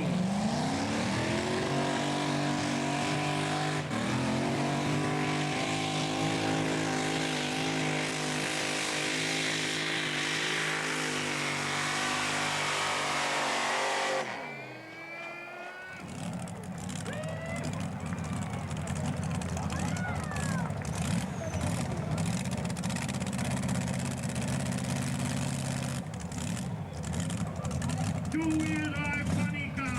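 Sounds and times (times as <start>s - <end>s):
racing engine at high revs: 0.0s - 29.9s.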